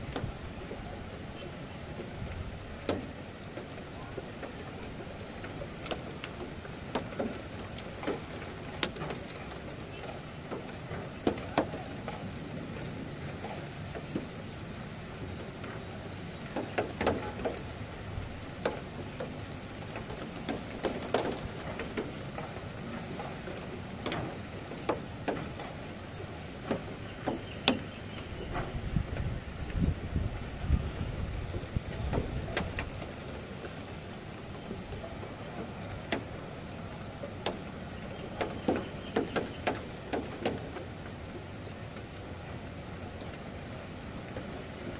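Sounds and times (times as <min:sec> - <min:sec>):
rain hiss: 0:00.0 - 0:44.9
raindrops tapping a surface: 0:00.0 - 0:44.9
wind buffeting microphone: 0:00.0 - 0:44.9.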